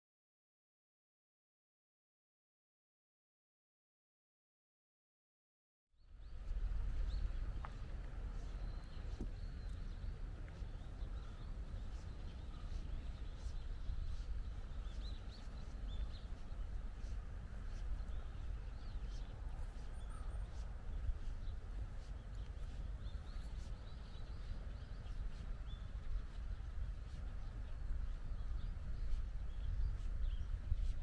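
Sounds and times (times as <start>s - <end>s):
small birds chirping: 6.0s - 31.0s
wind rumble on microphone: 6.0s - 31.0s.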